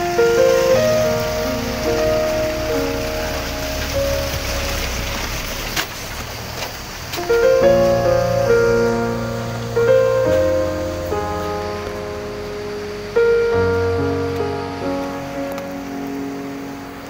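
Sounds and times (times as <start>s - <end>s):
slow piano chords: 0.0s - 17.0s
soft noisy wash: 0.0s - 17.0s.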